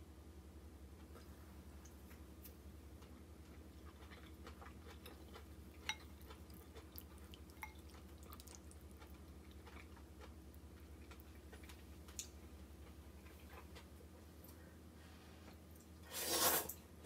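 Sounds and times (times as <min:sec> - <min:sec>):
low steady hum: 0:00.0 - 0:17.0
wet noodle sounds: 0:01.2 - 0:14.0, 0:15.8 - 0:16.8.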